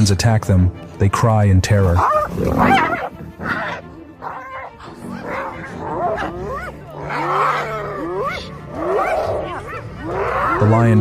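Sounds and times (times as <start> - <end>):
background music: 0.0 - 11.0
hyenas yelping: 2.0 - 11.0.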